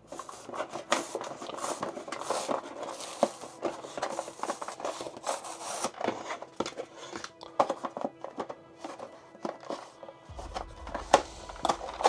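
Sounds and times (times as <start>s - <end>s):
cardboard and plastic packaging rubbing: 0.0s - 12.0s.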